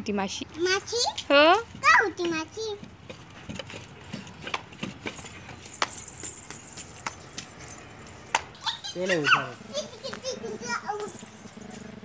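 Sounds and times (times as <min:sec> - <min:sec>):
child's footsteps on concrete: 0:00.5 - 0:11.9.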